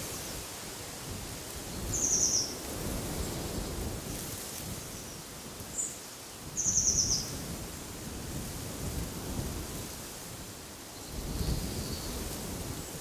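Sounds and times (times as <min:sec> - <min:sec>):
wind and rustling: 0:00.0 - 0:13.0.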